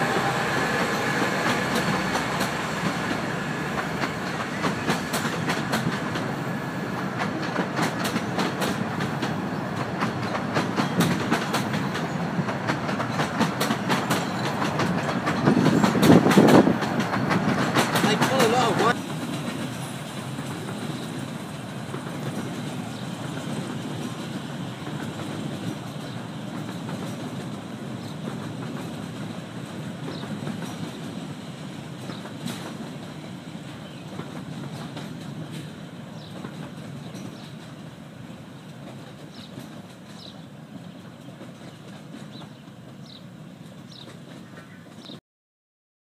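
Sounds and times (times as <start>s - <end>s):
train wheels rumbling: 0.0s - 45.2s
wheels clickety-clack on track: 0.0s - 45.2s.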